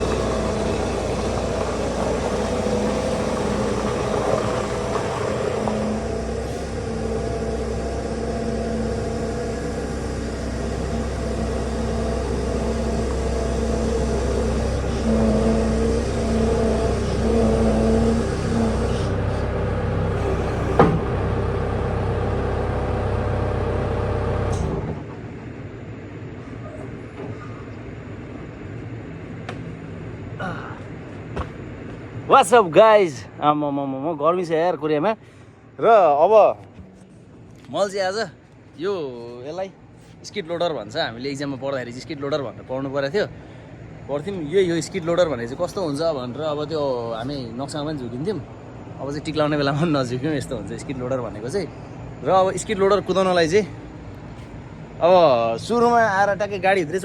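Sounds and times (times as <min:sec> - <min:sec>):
skid-steer loader engine running: 0:00.0 - 0:33.3, 0:36.6 - 0:57.0
quiet hum: 0:00.0 - 0:57.0.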